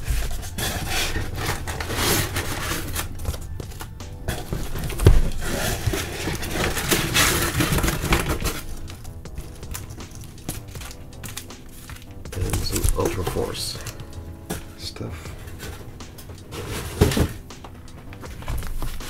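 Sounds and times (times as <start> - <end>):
rustling and scraping of packing: 0.0 - 19.0.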